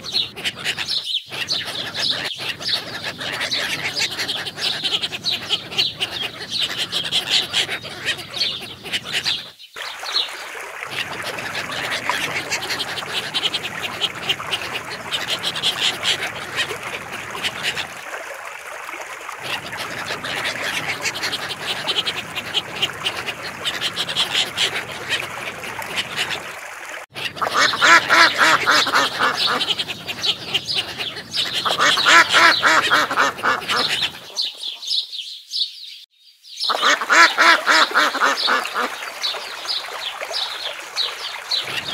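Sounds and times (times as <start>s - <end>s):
ducks quacking: 0.0s - 9.5s, 10.9s - 18.0s, 19.4s - 34.8s, 36.7s - 39.3s, 41.5s - 41.9s.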